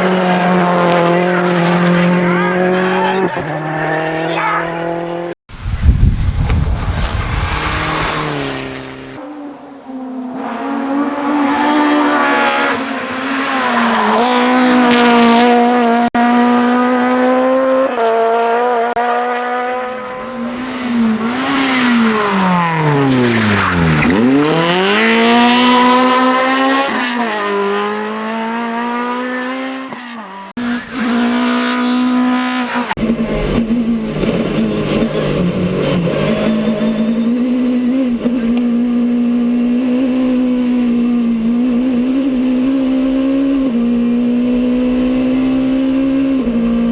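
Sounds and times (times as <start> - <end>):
car engine revving hard: 6.6 - 9.2, 10.6 - 46.9.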